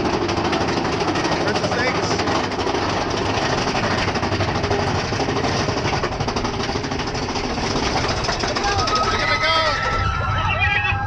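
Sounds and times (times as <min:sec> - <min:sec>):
roller coaster car clacking on track: 0:00.0 - 0:11.0.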